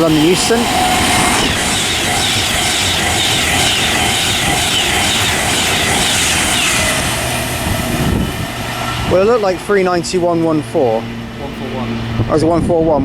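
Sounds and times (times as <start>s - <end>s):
train passing at speed: 0.0s - 13.0s.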